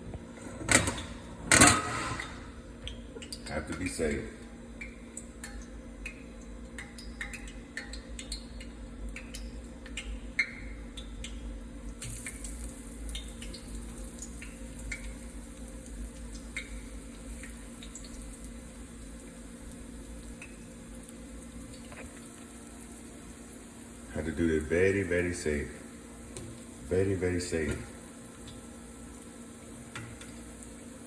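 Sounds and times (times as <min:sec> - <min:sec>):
frying oil sizzling: 0:01.5 - 0:31.0.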